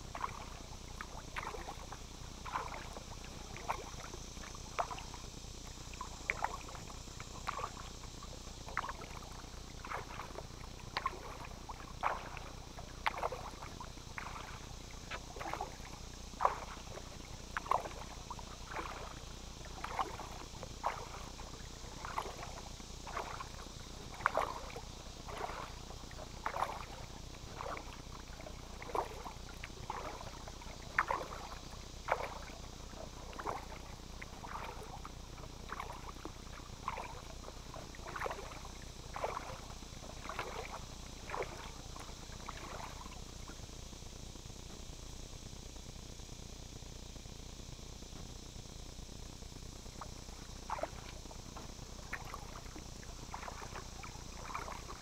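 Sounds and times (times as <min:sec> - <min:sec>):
paddle splashing in water: 0:00.0 - 0:43.6, 0:50.0 - 0:55.0.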